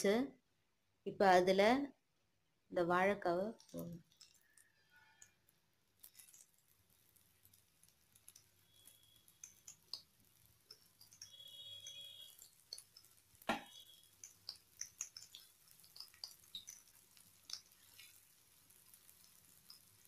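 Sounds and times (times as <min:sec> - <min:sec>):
hot oil popping and crackling: 0:03.4 - 0:20.0.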